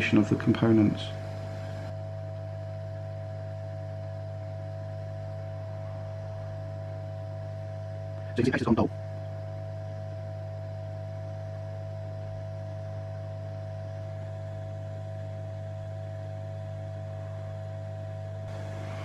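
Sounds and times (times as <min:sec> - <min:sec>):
hot air station humming and whining: 0:00.0 - 0:19.0.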